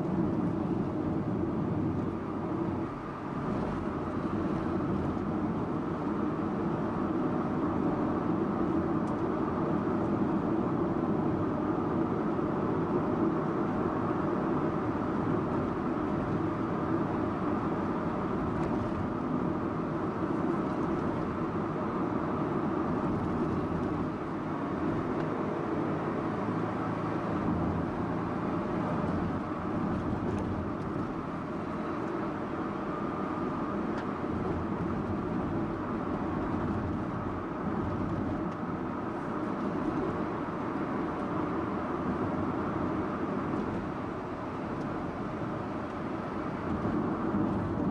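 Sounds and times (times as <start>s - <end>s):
car engine hum: 0.0s - 47.9s
tyre and road noise: 0.0s - 47.9s.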